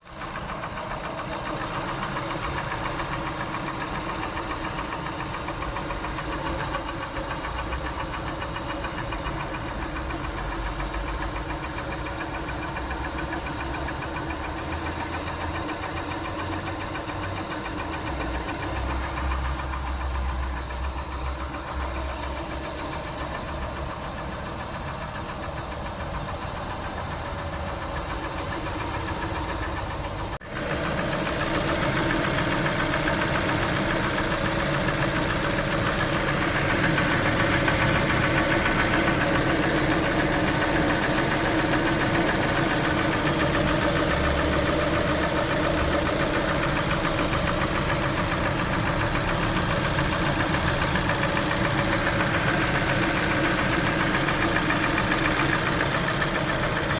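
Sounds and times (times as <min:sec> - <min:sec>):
car engine running: 0:00.0 - 0:56.9
engine knocking: 0:00.0 - 0:56.9.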